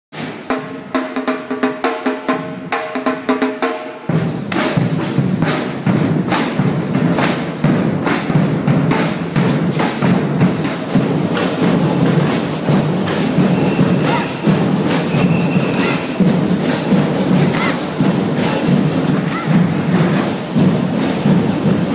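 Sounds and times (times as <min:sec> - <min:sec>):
samba percussion ensemble: 0:00.1 - 0:21.9
bass drums beating: 0:04.2 - 0:21.9.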